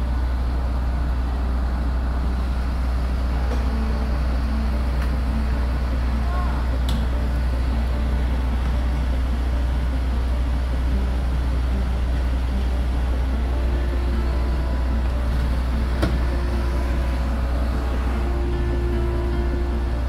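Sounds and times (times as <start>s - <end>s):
fire engines rumbling: 0.0s - 20.0s.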